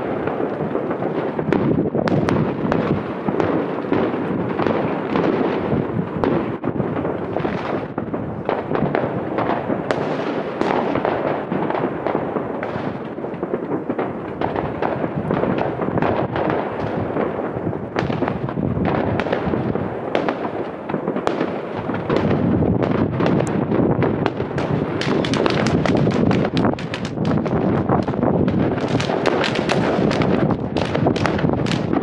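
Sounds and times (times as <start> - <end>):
fireworks and firecrackers banging: 0.0 - 32.0.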